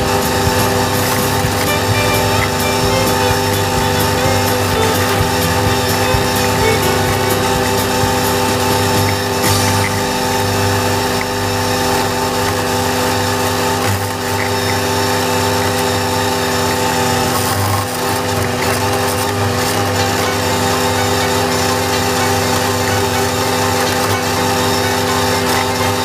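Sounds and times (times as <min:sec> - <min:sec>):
flail mower whine and rush: 0:00.0 - 0:26.0
tractor diesel engine running: 0:00.0 - 0:26.0.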